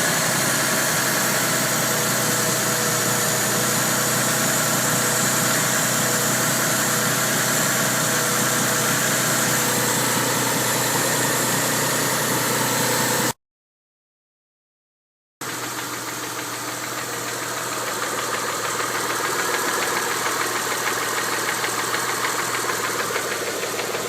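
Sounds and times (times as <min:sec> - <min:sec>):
car engine idling: 0:00.0 - 0:13.4, 0:15.4 - 0:24.0.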